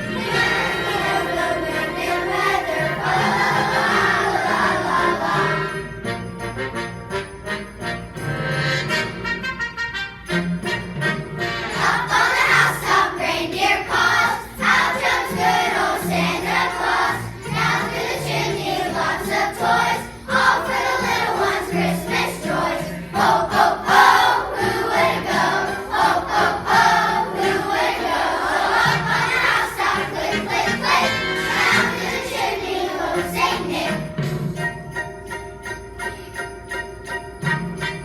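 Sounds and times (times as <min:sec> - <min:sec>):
choir singing: 0:00.0 - 0:06.2, 0:11.7 - 0:38.0.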